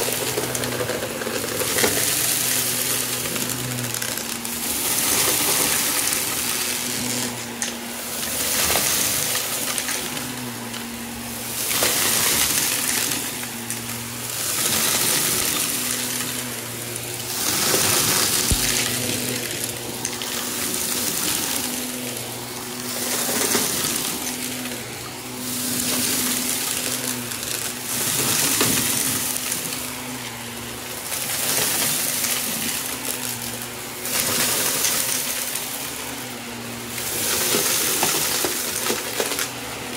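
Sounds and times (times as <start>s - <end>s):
debris rattling up vacuum nozzle: 0.0s - 39.9s
vacuum cleaner motor hum: 0.0s - 39.9s.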